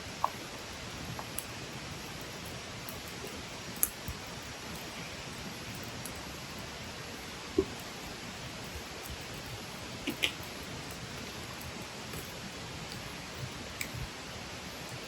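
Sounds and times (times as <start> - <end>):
campfire hissing: 0.0 - 15.0
campfire sharp crackles: 0.0 - 15.0.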